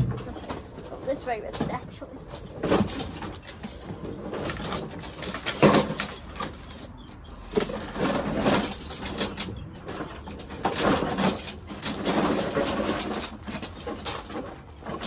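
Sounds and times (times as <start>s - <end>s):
lawn mower scraping and rattling: 0.0s - 15.0s.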